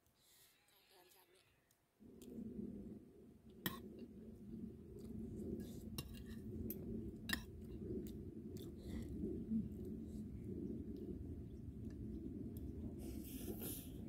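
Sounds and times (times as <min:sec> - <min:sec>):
low background rumble: 0:01.8 - 0:14.0.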